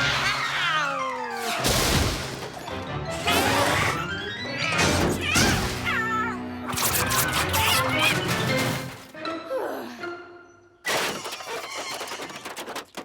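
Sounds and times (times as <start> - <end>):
cartoon background music: 0.0 - 12.9.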